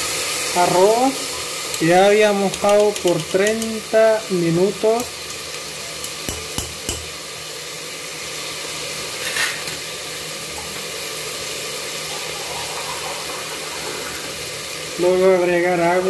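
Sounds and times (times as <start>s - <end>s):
rice frying hiss: 0.0s - 16.0s.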